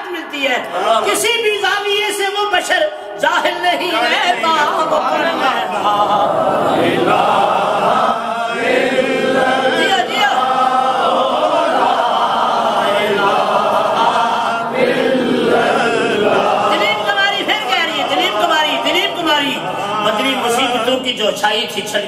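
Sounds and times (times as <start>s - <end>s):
men chanting in unison: 3.1s - 21.4s.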